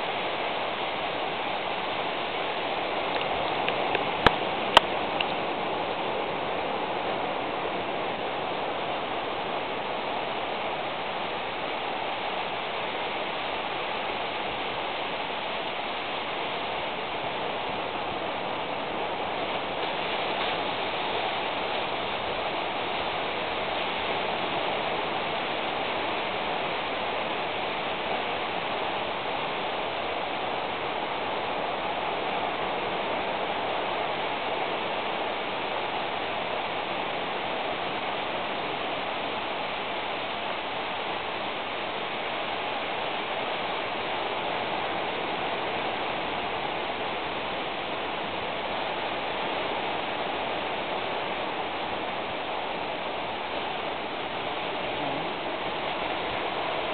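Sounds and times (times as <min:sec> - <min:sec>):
steady rushing noise: 0:00.0 - 0:56.9.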